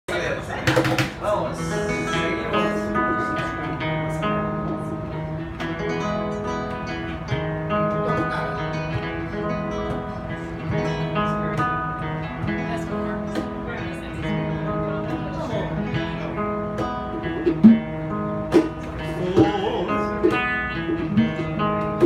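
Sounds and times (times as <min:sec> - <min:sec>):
acoustic guitars playing: 0:00.1 - 0:22.0
cajon tapping: 0:00.5 - 0:22.0.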